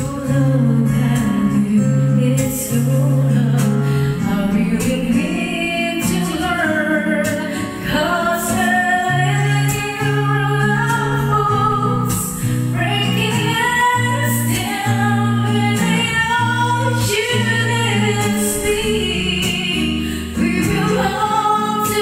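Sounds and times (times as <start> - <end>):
woman singing a slow ballad: 0.0 - 22.0.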